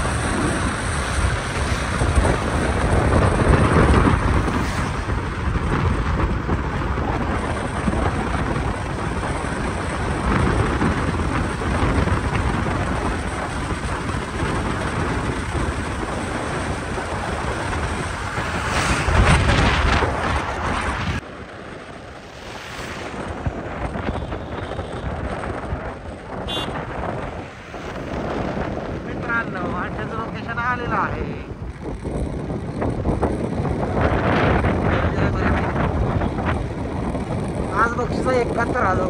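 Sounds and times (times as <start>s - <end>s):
low rumble: 0.0s - 13.5s, 14.4s - 39.0s
wind buffeting microphone: 0.0s - 39.0s.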